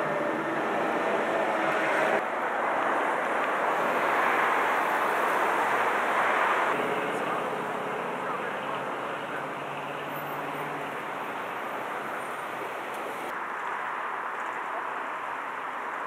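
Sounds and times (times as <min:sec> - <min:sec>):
rushing outdoor background noise: 0:00.0 - 0:16.0.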